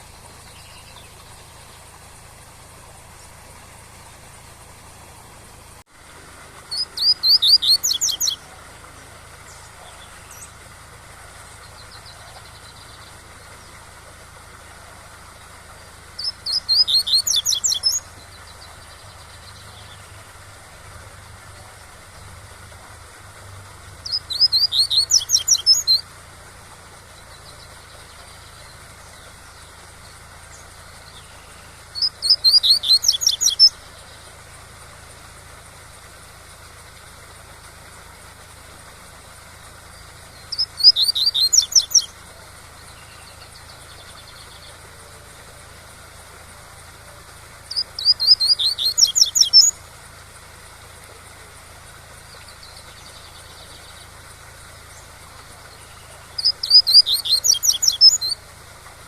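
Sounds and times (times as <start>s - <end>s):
bird song of rapid notes: 0.0s - 59.0s.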